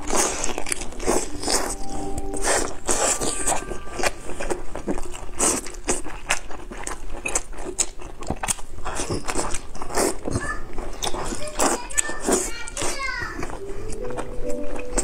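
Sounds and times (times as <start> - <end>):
wet chewing mouth sounds: 0.0 - 15.0.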